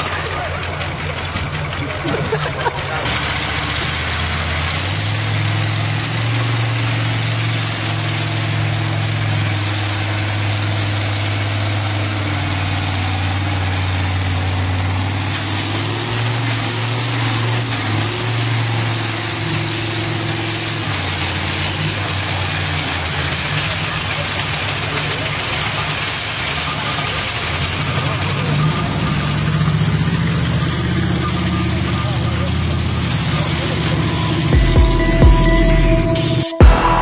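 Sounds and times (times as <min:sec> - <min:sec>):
tractor diesel engine under load: 0:00.0 - 0:37.0.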